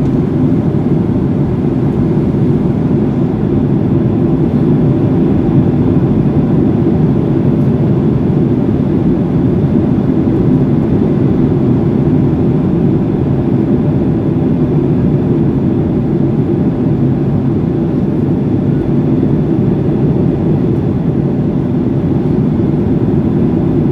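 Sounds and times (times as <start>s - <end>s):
airliner cabin engine rumble: 0.0s - 23.9s.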